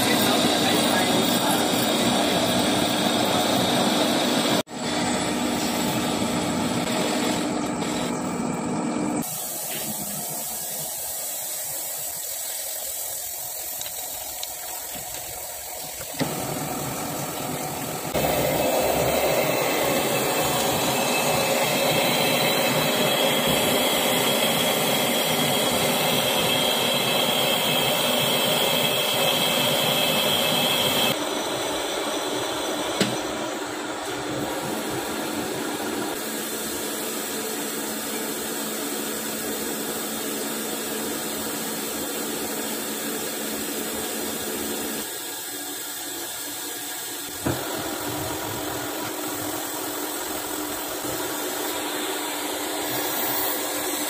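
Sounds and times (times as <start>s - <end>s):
coolant hiss: 0.0s - 4.6s, 9.2s - 54.0s
metal lathe running: 0.0s - 9.3s, 16.0s - 45.2s, 46.9s - 54.0s
high machine whine: 0.0s - 12.2s, 14.8s - 54.0s.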